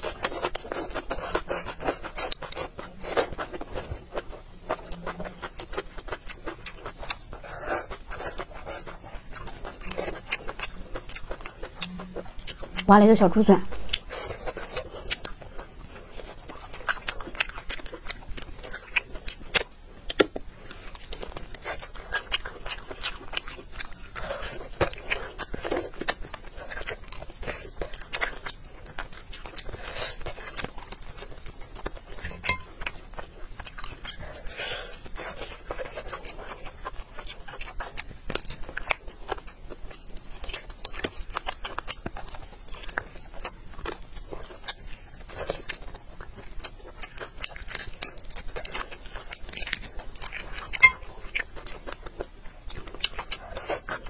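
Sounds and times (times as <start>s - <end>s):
person chewing meat off a bone: 0.0s - 12.9s, 13.7s - 54.0s.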